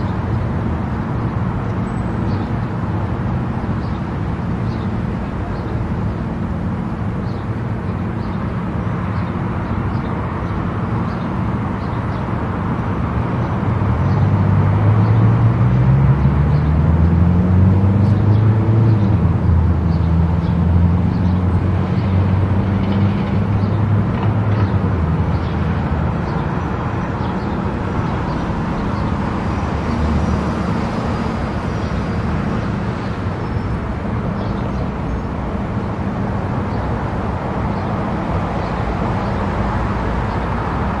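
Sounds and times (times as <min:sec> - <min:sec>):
tyre and road noise: 0:00.0 - 0:41.0.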